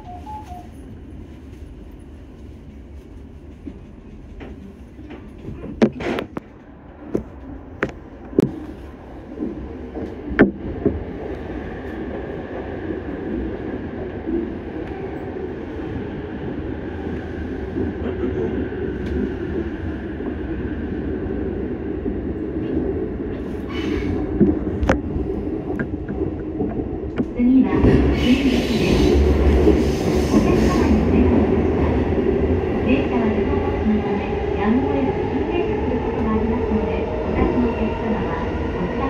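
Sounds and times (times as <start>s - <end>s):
train running rumble: 0.0s - 21.0s, 21.6s - 39.0s.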